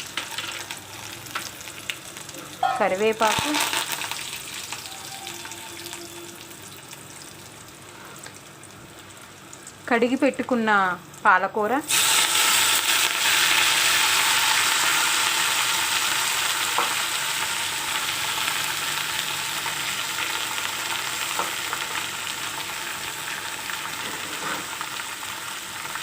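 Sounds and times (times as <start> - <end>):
spinach sizzling in hot oil: 0.0 - 26.0.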